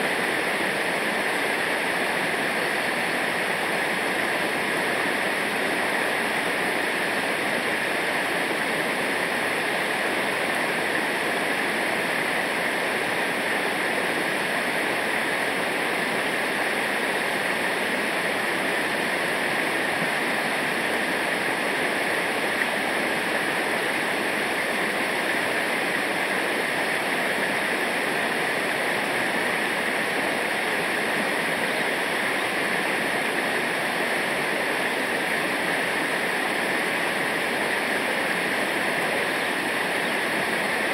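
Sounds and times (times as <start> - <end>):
river water rushing over rapids: 0.0 - 40.9.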